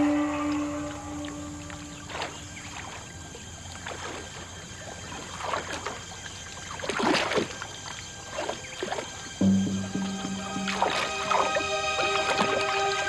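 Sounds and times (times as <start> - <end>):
water sloshing and splashing: 0.3 - 13.0.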